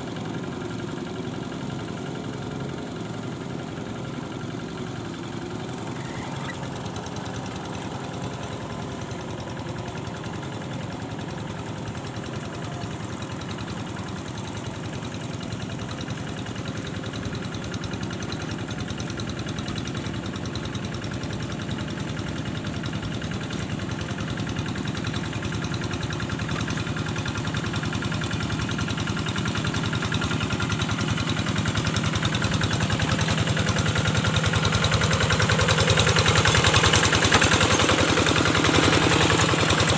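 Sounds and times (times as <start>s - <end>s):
engine chugging: 0.0s - 39.9s.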